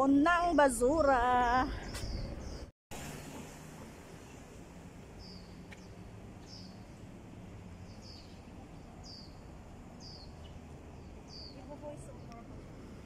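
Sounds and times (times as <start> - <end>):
low city hum: 0.0 - 13.0.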